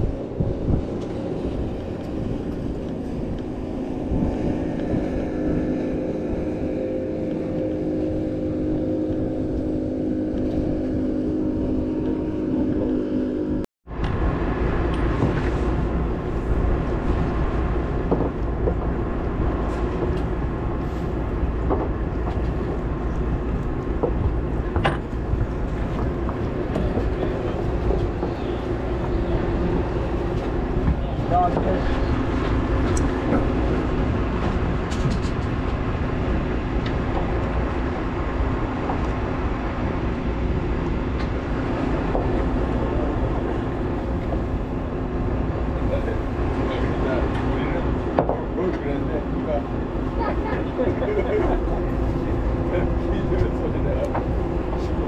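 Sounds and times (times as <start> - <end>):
boat engine running: 0.0 - 55.0
low droning tones: 0.0 - 55.0
water noise: 0.0 - 55.0
wind: 0.0 - 55.0.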